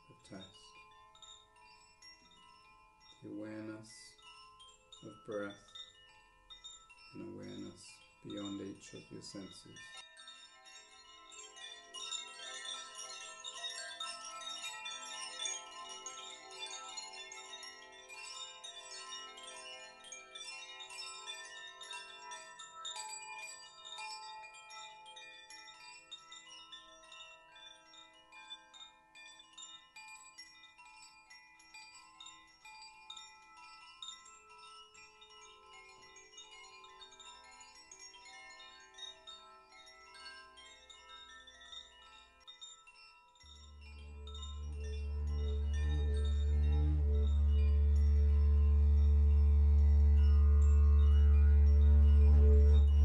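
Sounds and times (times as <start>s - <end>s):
metal chimes ringing: 0.0s - 53.0s.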